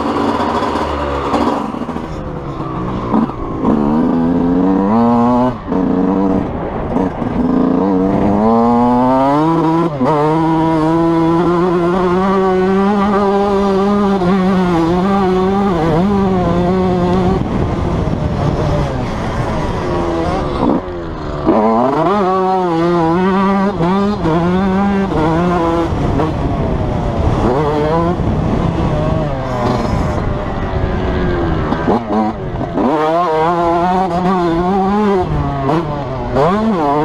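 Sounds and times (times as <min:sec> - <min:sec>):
motocross engine revving: 0:00.0 - 0:37.0.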